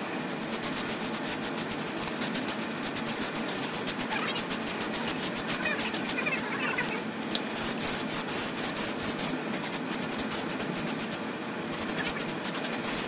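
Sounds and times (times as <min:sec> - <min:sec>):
hand rubbing on steel frame: 0:00.4 - 0:13.0.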